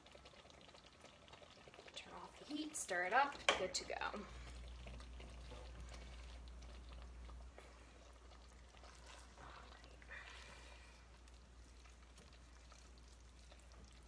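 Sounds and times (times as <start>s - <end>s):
wet squelching of stirred food: 0.0s - 14.0s.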